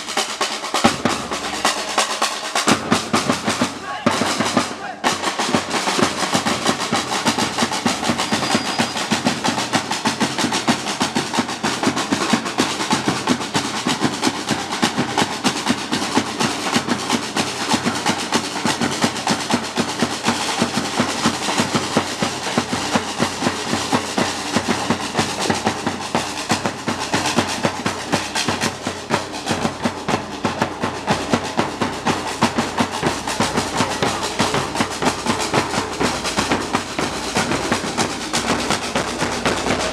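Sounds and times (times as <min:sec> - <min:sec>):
samba drums playing fast rhythm: 0:00.0 - 0:39.9.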